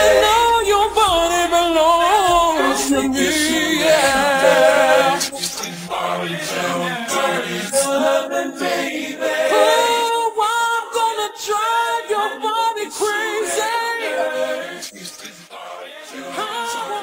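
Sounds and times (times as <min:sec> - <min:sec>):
voices singing unaccompanied: 0:00.0 - 0:17.0.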